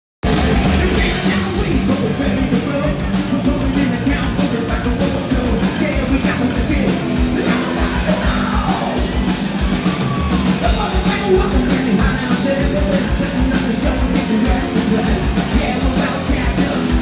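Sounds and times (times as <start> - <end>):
bass guitar: 0.2 - 17.0
drums: 0.2 - 17.0
electric guitars: 0.2 - 17.0.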